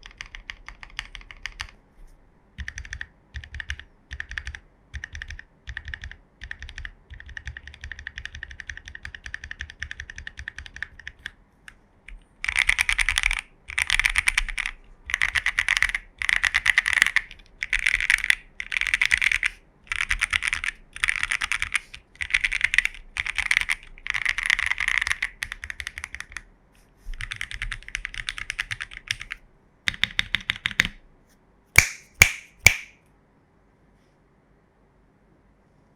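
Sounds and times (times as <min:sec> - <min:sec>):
mechanical keyboard typing: 0:00.0 - 0:01.8, 0:02.6 - 0:11.4, 0:12.1 - 0:26.5, 0:27.1 - 0:31.0.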